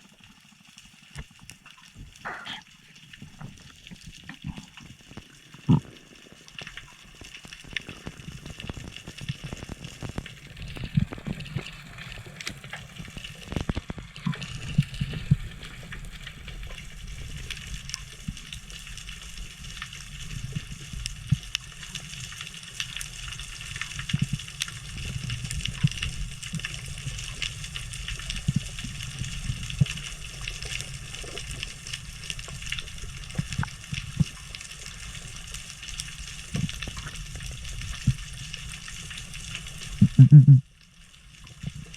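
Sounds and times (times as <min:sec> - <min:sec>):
dense crackle of tiny clicks: 0:00.0 - 0:41.9
underwater rumble of moving water: 0:00.0 - 0:41.9.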